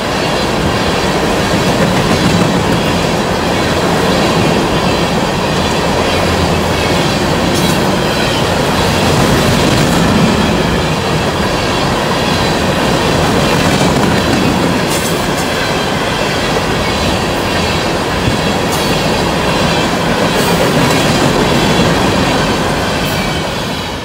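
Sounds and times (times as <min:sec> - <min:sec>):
train cars rumbling on rails: 0:00.0 - 0:24.0.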